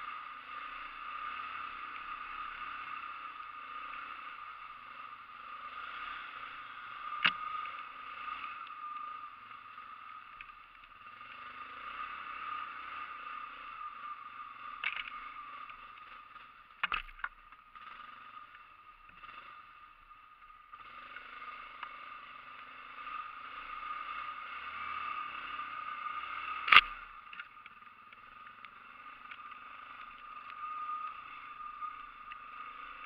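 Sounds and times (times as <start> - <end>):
atv motor whining: 0.0 - 33.0.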